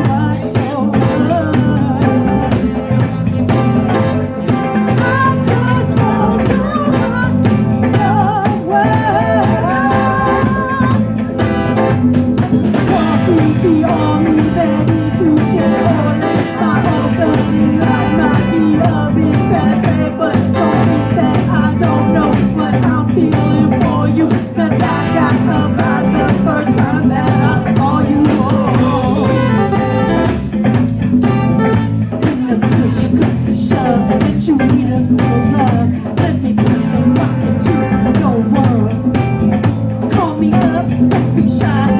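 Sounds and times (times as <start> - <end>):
band playing blues rock: 0.0 - 41.9.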